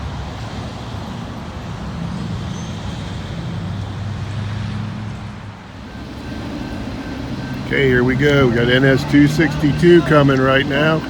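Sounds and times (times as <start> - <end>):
low engine hum: 0.0 - 11.0
traffic-like background noise: 0.0 - 11.0.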